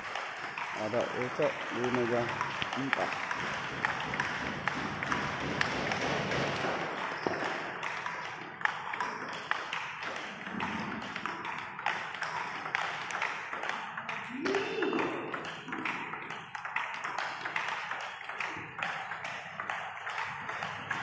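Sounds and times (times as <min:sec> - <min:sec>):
table tennis ball taps: 0:00.1 - 0:21.0.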